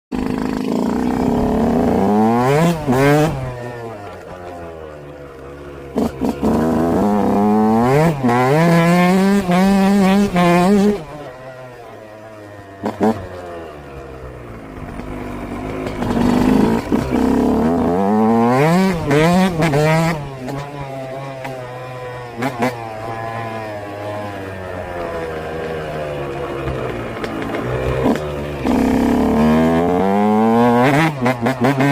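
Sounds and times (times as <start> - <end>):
motocross engine revving: 0.1 - 31.9.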